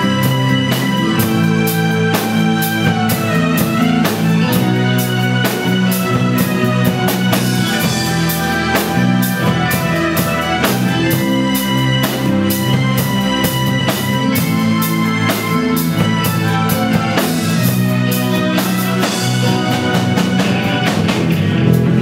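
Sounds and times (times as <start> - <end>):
bass and guitar chords: 0.0 - 22.0
drum kit beat: 0.0 - 22.0.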